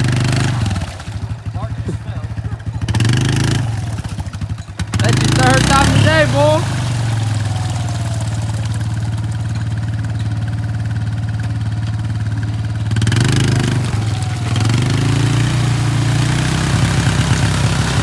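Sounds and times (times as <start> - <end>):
atv engine idling and revving: 0.0 - 18.0.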